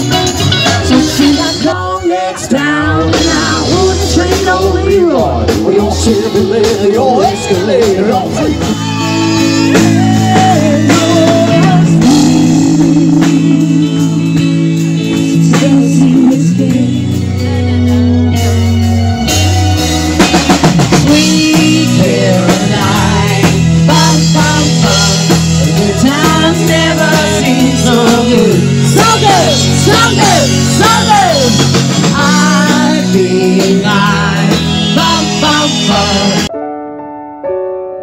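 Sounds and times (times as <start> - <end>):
person singing: 0.0 - 18.0, 20.9 - 36.5
drum kit: 0.0 - 36.5
bass guitar: 0.0 - 36.6
electric guitar: 0.0 - 38.0.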